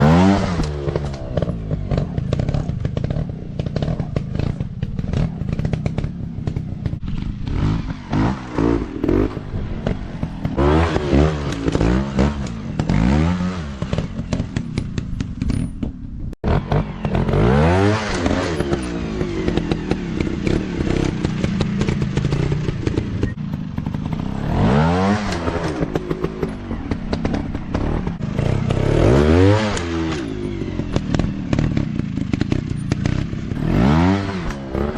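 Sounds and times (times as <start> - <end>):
dirt bike engines revving: 0.0 - 15.5, 16.4 - 34.9.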